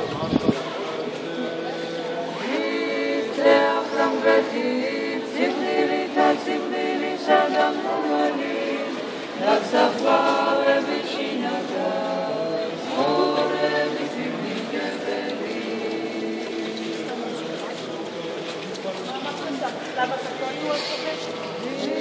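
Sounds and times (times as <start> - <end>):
choir singing chant: 0.0 - 18.8, 20.1 - 22.0.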